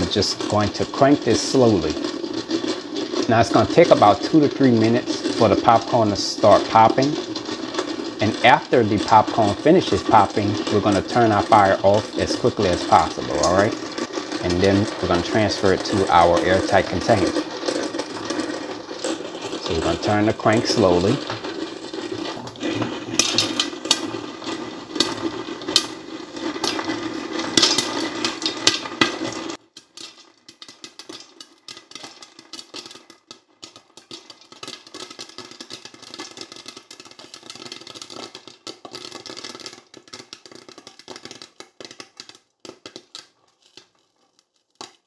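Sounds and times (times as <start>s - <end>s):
popcorn popper crank rattling: 0.0s - 45.0s.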